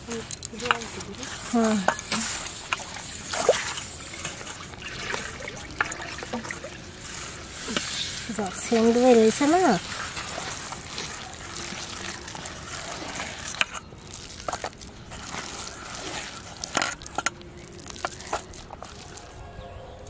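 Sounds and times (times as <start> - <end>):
wet squelching of mash: 0.0 - 19.5.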